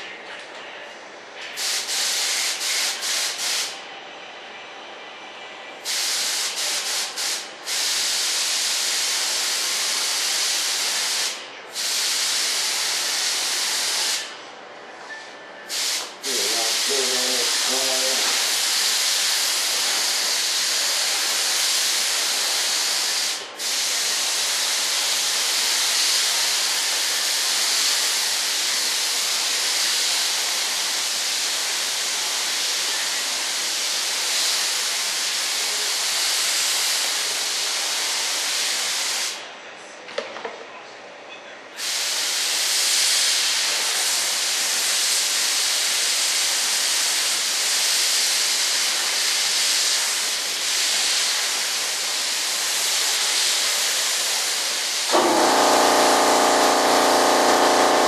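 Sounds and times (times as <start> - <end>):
air spray gun hissing: 1.6 - 3.8, 5.8 - 14.3, 15.7 - 39.4, 41.8 - 58.0.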